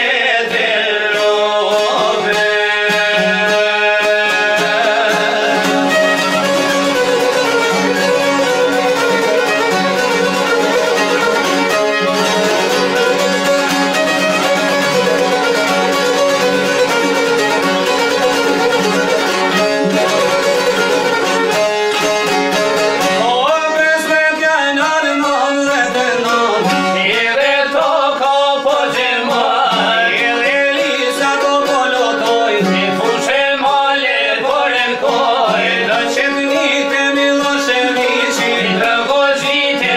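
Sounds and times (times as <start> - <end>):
plucked lutes: 0.0 - 39.9
violin: 0.0 - 39.9.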